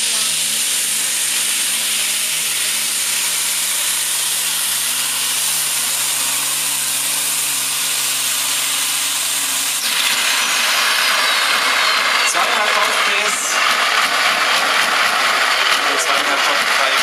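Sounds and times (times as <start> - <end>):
tractor engine running flat out: 0.0 - 17.0.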